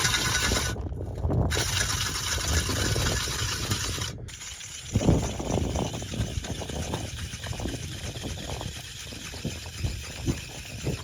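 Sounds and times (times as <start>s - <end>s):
ice auger grinding: 0.0s - 11.0s
wind rumble on microphone: 0.0s - 11.0s.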